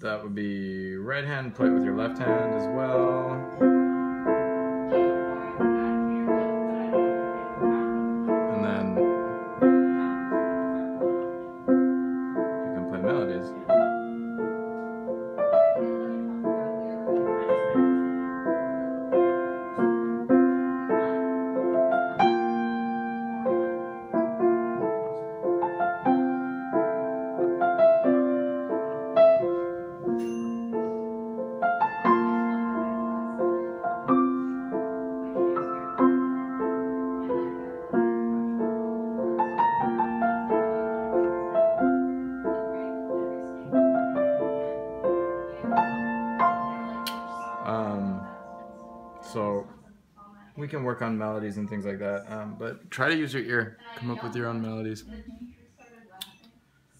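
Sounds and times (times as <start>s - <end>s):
piano chords and melody: 0.0s - 49.9s.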